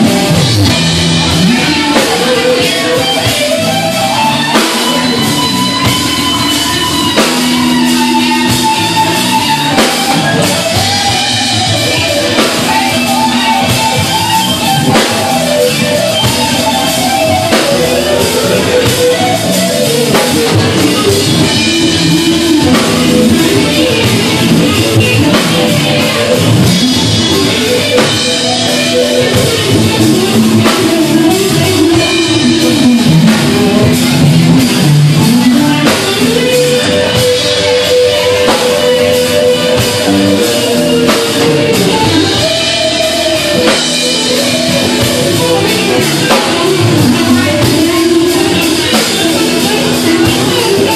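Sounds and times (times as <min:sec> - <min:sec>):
drum kit: 0:00.0 - 0:50.9
electric guitar: 0:00.0 - 0:50.9
rock band playing: 0:00.0 - 0:50.9.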